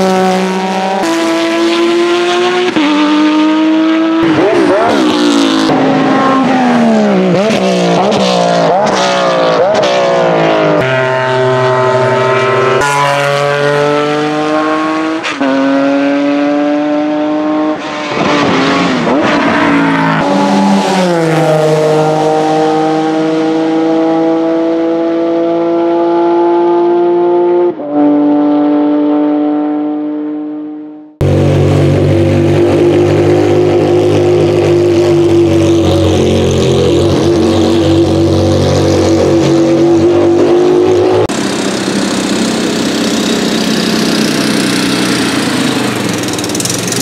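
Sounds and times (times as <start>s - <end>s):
race car engines downshifting: 0.0s - 30.4s, 31.2s - 47.0s
race car accelerating: 0.0s - 47.0s.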